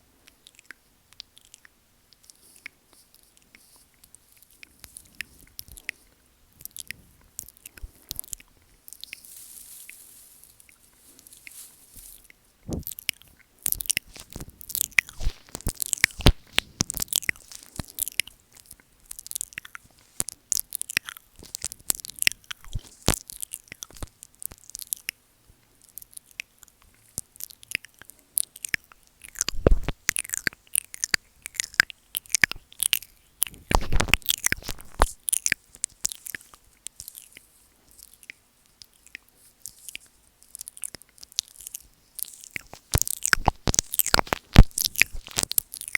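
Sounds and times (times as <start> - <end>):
wet mouth clicks and smacks: 0.3 - 9.2, 12.2 - 25.2, 25.8 - 45.9.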